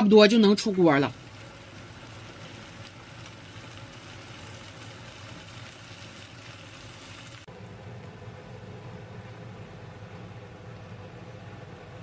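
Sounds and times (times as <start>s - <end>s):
vegetables sizzling in a wok: 0.1s - 10.6s.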